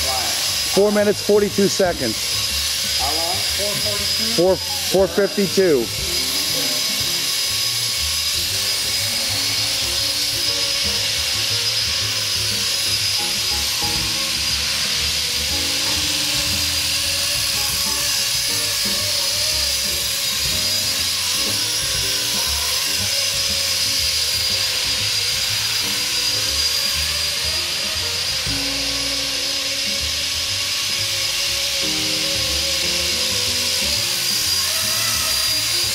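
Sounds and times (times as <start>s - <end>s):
model helicopter motor whine: 0.0s - 35.9s.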